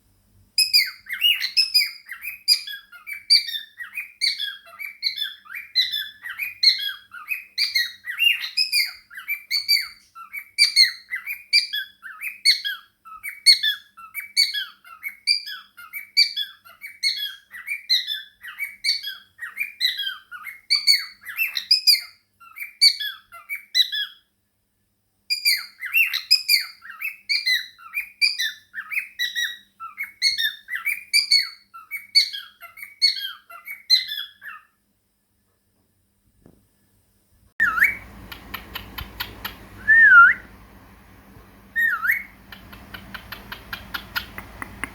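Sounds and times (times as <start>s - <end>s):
parrots chattering: 0.6s - 24.2s, 25.3s - 34.7s, 37.6s - 39.8s, 41.8s - 44.9s.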